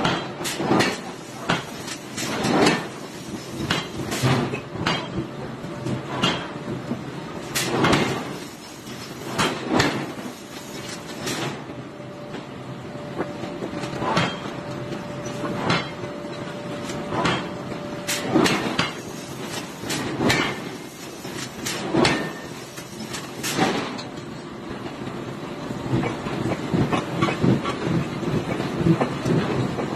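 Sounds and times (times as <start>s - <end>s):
workshop machinery noise: 0.0s - 29.9s.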